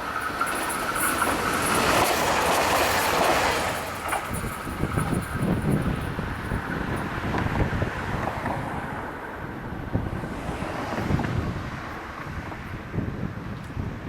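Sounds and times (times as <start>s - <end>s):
low rumble of train: 0.0s - 14.0s
wind buffeting microphone: 0.2s - 14.0s.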